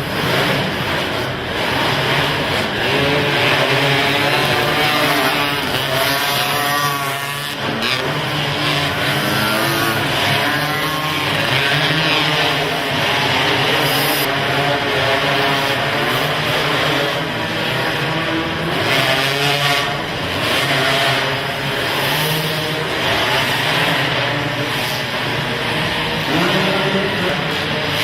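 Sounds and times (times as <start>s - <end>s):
quad engines revving: 0.0s - 28.0s.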